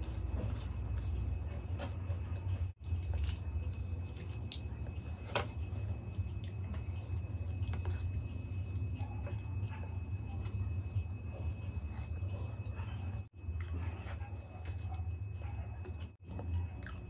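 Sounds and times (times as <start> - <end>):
soft wet chewing: 0.0 - 17.0
steady low hum: 0.0 - 17.0.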